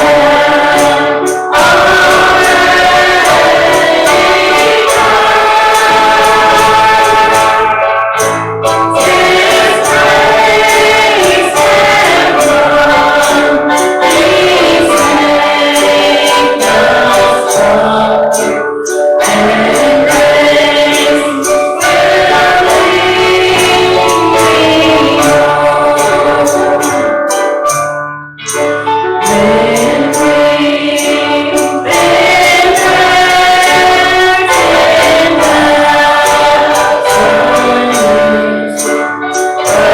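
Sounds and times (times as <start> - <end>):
congregation singing a hymn: 0.0 - 39.9
instrumental accompaniment: 0.0 - 39.9
percussion: 0.0 - 39.9.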